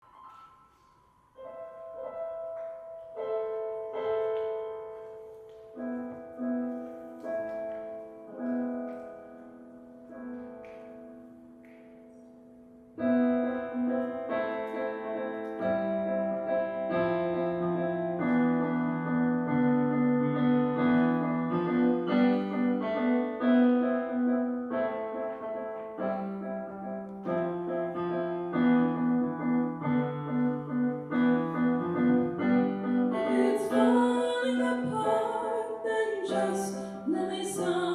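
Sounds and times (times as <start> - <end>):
keyboard melody: 0.0 - 37.9.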